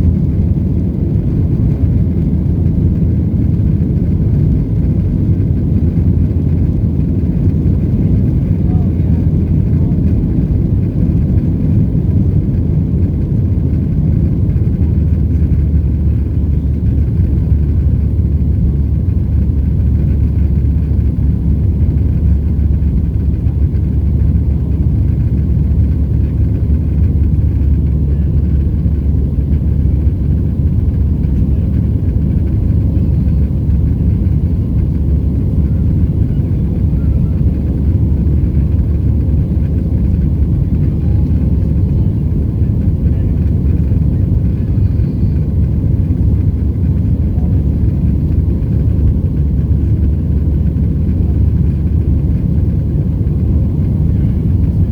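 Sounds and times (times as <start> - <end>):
jet engine rumble in cabin: 0.0 - 54.9.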